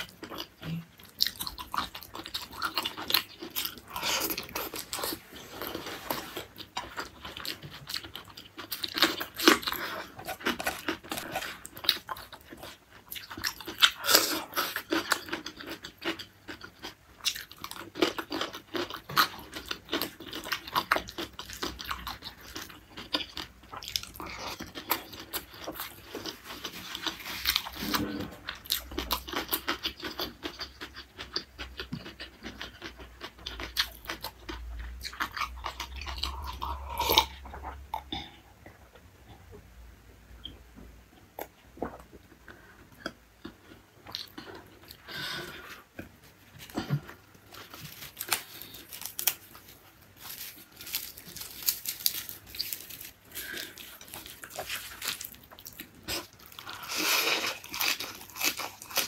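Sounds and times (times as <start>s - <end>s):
person chewing food: 0.0s - 39.6s, 41.2s - 59.0s.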